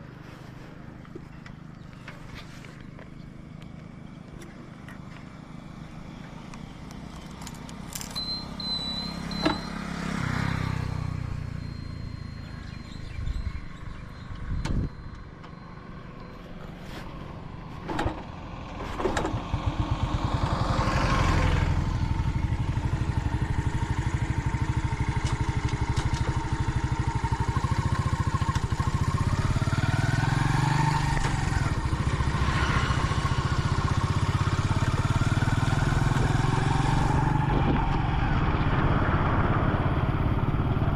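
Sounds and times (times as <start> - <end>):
motorcycle engine: 0.0 - 40.9
passing traffic: 0.0 - 40.9.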